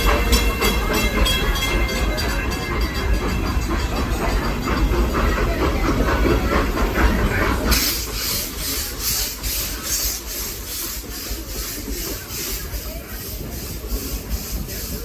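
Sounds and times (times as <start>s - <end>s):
rhythmic steam hissing: 0.0s - 15.0s
train wheels rumbling: 0.0s - 15.0s.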